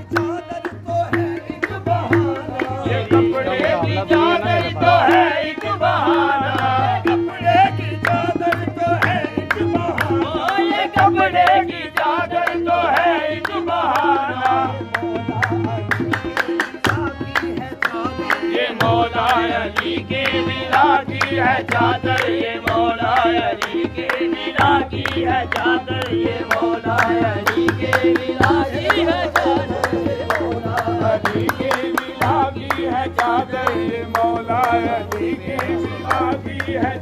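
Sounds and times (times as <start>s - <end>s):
harmonium: 0.0s - 37.0s
sharp rhythmic clicks: 0.0s - 37.0s
tabla beat: 0.0s - 37.0s.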